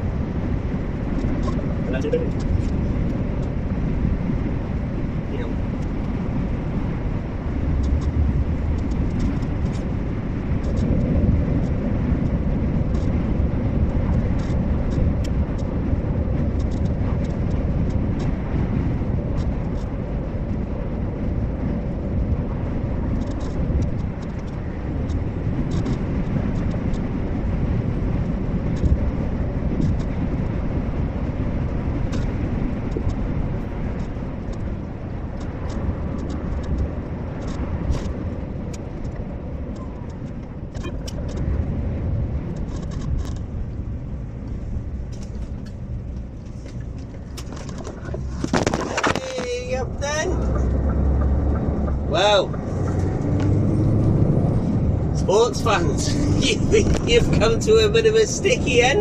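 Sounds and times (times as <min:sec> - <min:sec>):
lorry engine and road rumble: 0:00.0 - 0:59.0.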